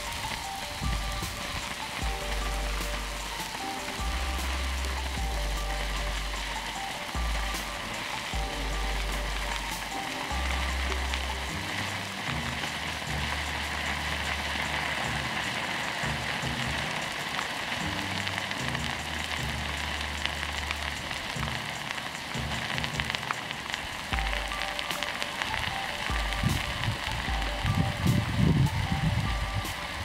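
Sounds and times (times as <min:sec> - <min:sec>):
background music with bass line: 0:00.0 - 0:30.0
chemical mixture burning with hiss: 0:00.0 - 0:30.0.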